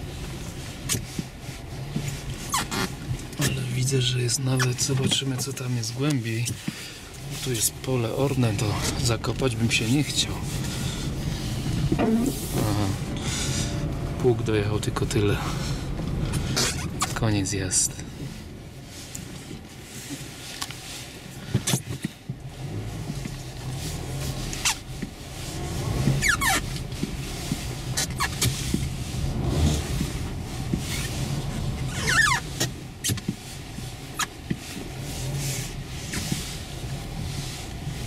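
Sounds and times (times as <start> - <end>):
car engine running low: 0.0 - 38.0
tyres crunching snow: 0.0 - 38.0.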